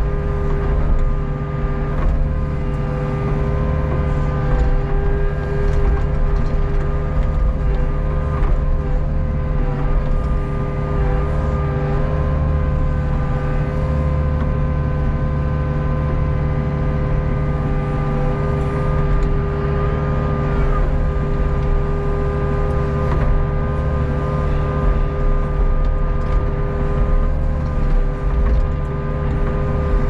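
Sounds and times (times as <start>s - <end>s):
diesel engine running: 0.0s - 30.0s
hydraulic whine: 0.0s - 30.0s.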